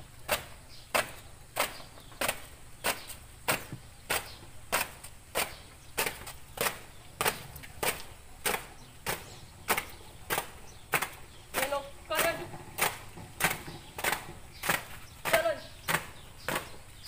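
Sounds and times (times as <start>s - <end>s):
marching footsteps on concrete: 0.0s - 17.0s.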